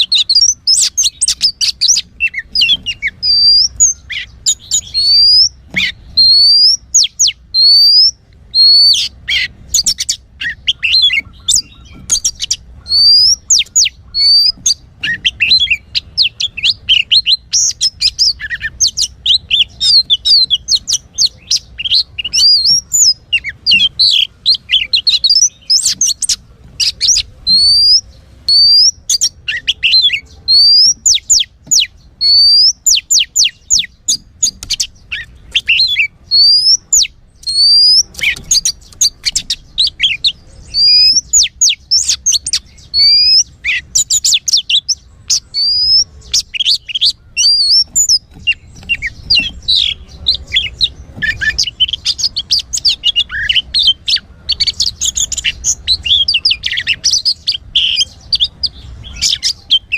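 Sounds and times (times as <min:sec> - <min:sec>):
magpie-robin whistling and chattering: 0:00.0 - 0:59.9.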